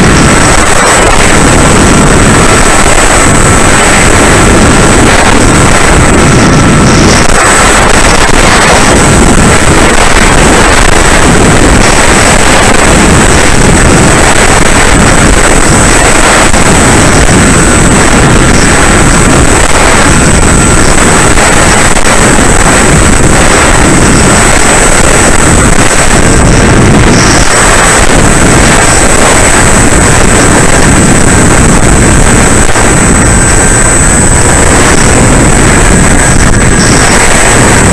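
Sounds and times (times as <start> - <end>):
high-pitched whine: 0.0 - 37.9
wind rushing over microphone: 0.0 - 37.9.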